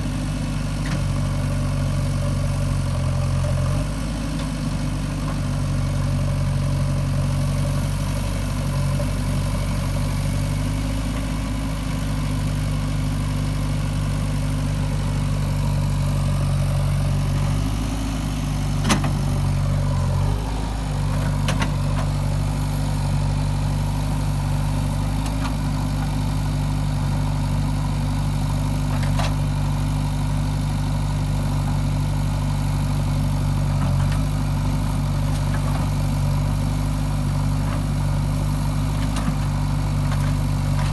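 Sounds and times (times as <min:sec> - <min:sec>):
diesel engine running at low revs: 0:00.0 - 0:40.9.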